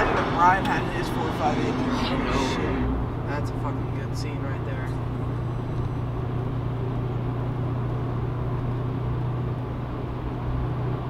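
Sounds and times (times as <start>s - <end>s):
car engine drone: 0.0s - 11.0s
road noise inside car: 0.0s - 11.0s.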